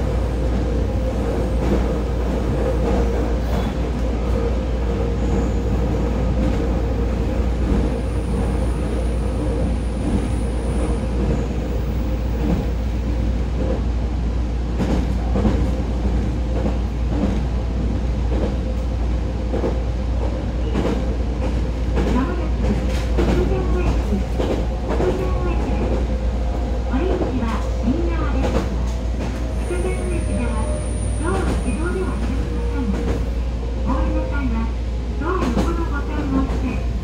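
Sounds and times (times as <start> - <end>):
steady train hum: 0.0 - 37.0
train wheels rumbling on rail: 0.0 - 37.0.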